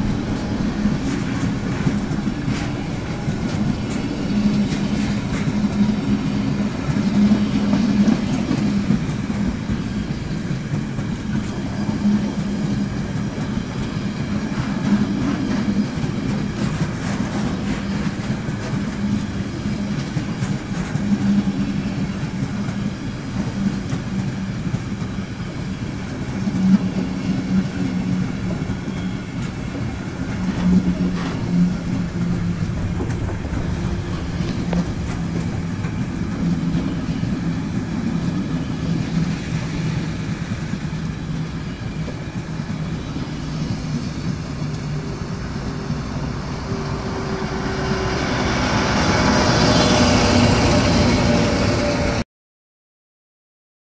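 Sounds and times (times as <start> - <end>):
diesel locomotive engine: 0.0 - 52.2
freight wagons rumbling on rails: 0.0 - 52.2.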